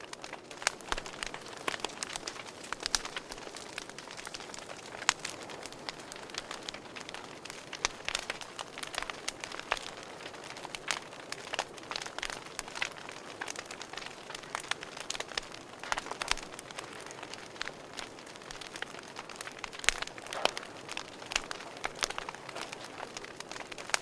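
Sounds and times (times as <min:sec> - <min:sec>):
fire popping and snapping: 0:00.0 - 0:24.0
soft hiss of burning: 0:00.0 - 0:24.0
wood fire crackling: 0:00.0 - 0:24.0.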